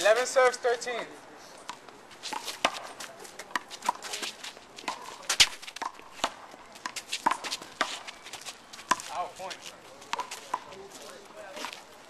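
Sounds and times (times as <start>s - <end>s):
sneakers scuffing on court: 1.8s - 11.9s.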